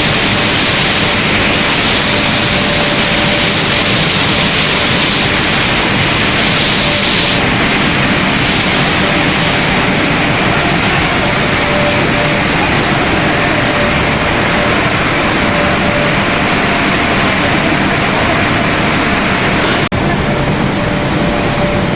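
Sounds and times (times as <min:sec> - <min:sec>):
faint machine whine: 0:00.0 - 0:21.9
machinery running: 0:00.0 - 0:21.9.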